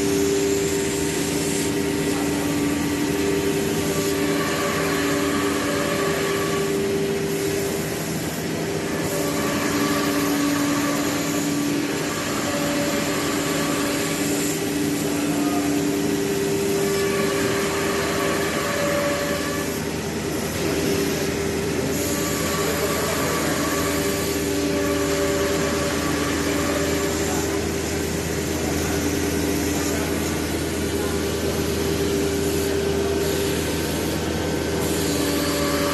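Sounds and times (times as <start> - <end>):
machine whining tones: 0.0 - 35.9
router machine running: 0.0 - 35.9.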